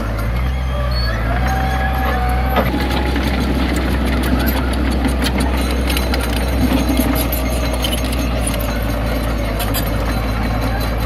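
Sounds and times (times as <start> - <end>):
diesel engine running: 0.0 - 11.0
metal knocks and clanks: 2.0 - 11.0.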